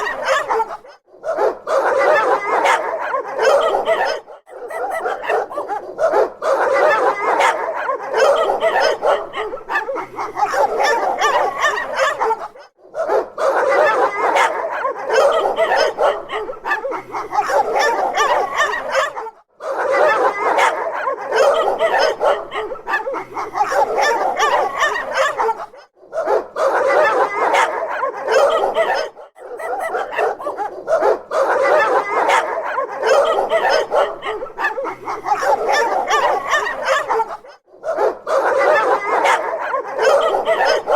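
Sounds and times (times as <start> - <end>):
dogs barking and yipping: 0.0 - 40.9.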